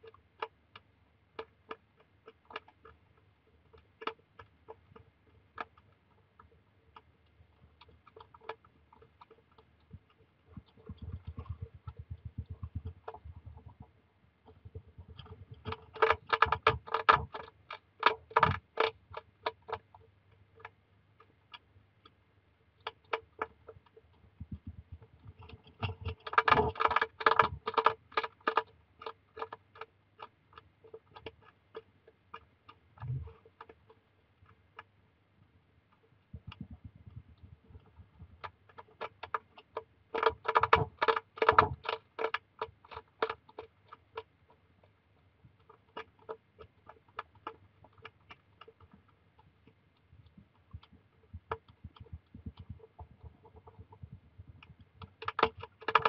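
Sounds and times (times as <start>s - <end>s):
hedgehog crunching dry kibble: 0.0s - 34.9s, 35.9s - 56.0s.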